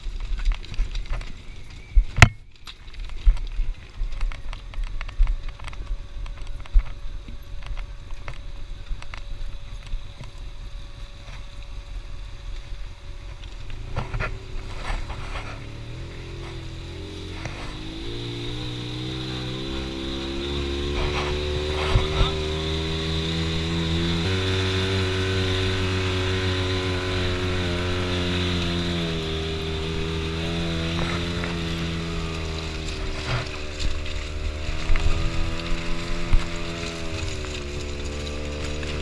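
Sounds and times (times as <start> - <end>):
off-road vehicle engine: 0.0 - 39.0.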